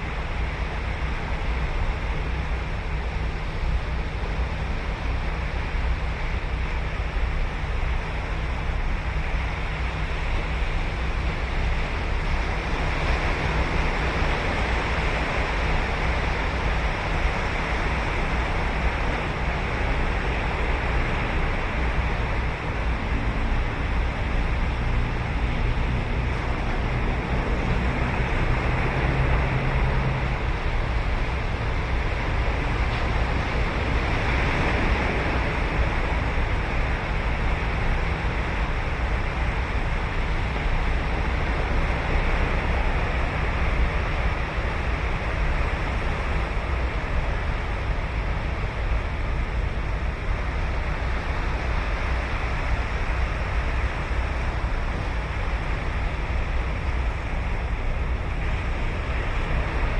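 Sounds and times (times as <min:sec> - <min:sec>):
ocean surf on beach: 0:00.0 - 0:59.9.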